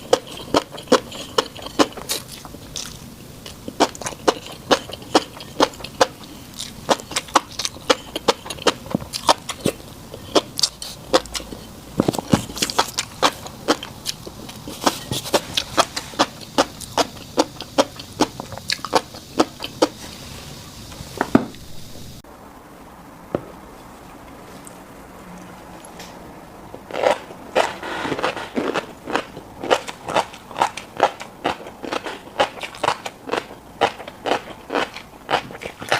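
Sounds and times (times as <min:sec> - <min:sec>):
chewing fish roe: 0:00.0 - 0:20.1, 0:23.9 - 0:35.9.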